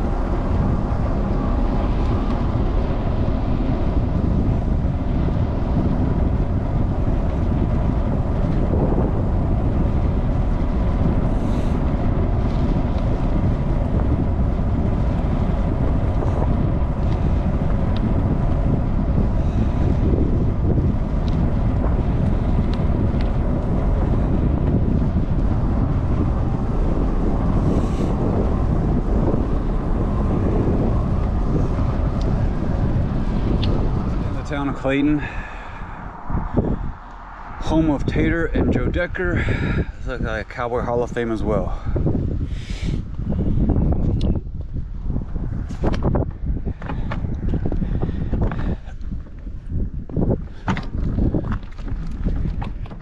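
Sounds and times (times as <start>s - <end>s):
low road rumble: 0.0s - 53.0s
wind buffeting microphone: 0.0s - 53.0s.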